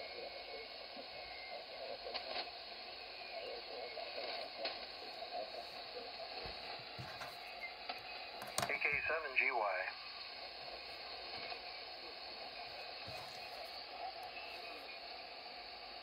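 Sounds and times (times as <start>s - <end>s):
faint radio crackles: 0.0s - 16.0s
radio static hiss: 0.0s - 16.0s.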